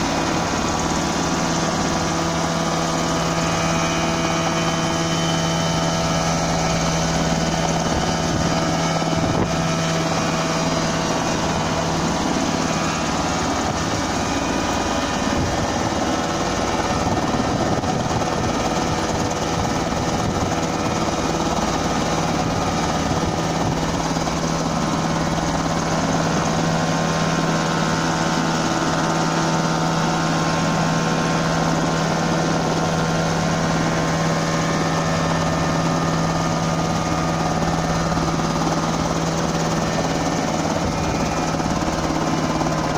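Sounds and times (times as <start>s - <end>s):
helicopter hovering: 0.0s - 42.9s.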